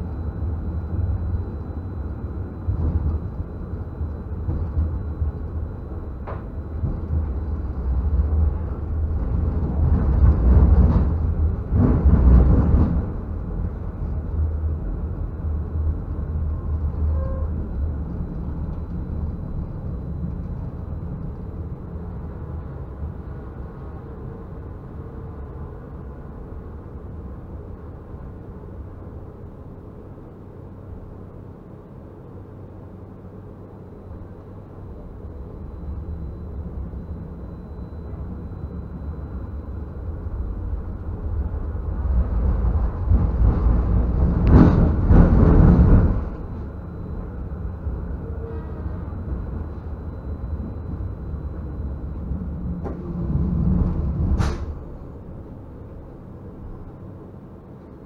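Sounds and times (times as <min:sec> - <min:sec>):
tram rumbling along track: 0:00.0 - 0:58.0.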